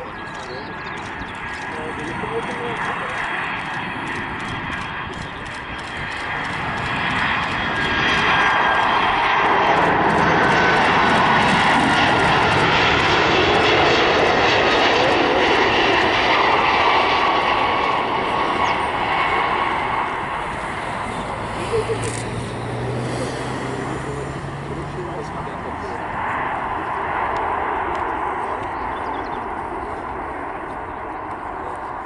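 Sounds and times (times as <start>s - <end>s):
jet engines rumbling and whining: 0.0s - 32.0s.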